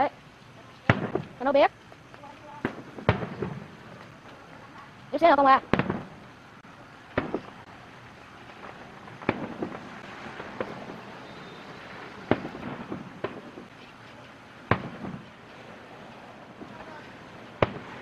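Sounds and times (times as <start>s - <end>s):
fireworks bursting overhead: 0.0s - 18.0s
small firework pops: 0.7s - 6.2s, 7.1s - 7.7s, 8.4s - 15.7s, 16.6s - 18.0s.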